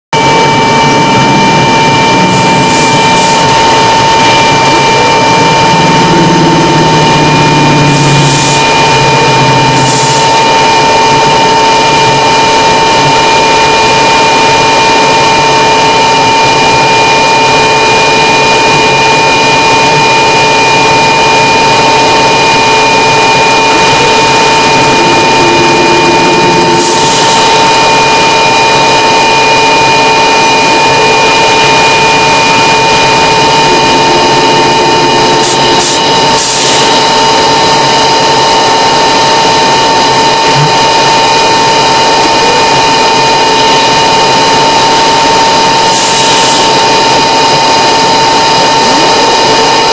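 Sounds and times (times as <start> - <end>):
aircraft engine and propeller drone: 0.2 - 49.9.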